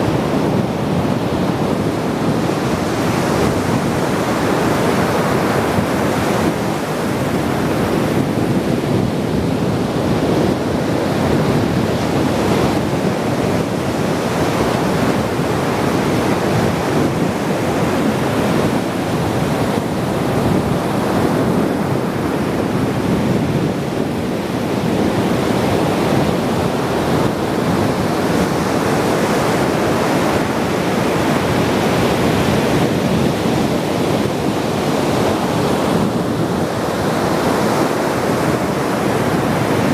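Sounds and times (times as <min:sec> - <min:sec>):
waves washing onto shore: 0:00.0 - 0:39.9
wind noise on microphone: 0:00.0 - 0:39.9.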